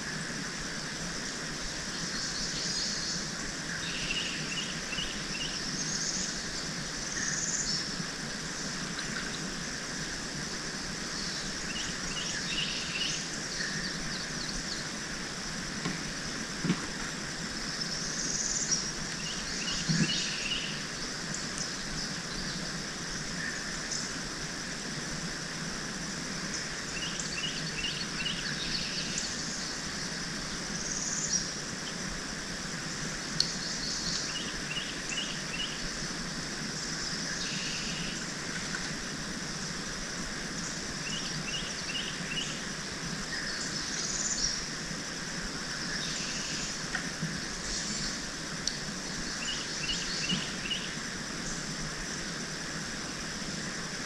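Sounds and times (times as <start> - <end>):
steady outdoor hiss: 0.0 - 54.0.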